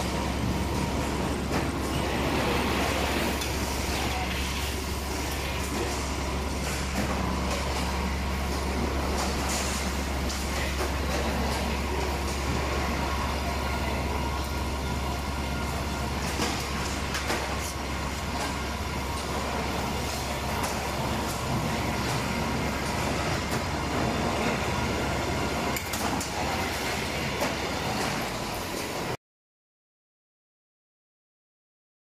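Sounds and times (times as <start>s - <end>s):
machinery rumble: 0.0s - 29.2s.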